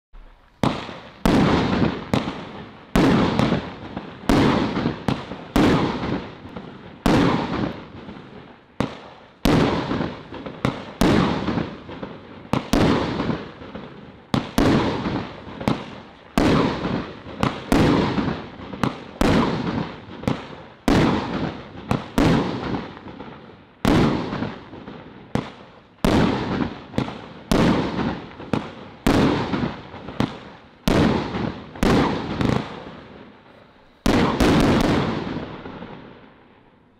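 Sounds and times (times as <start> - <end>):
firework shots banging: 0.2 - 8.2, 8.8 - 13.6, 14.3 - 36.1.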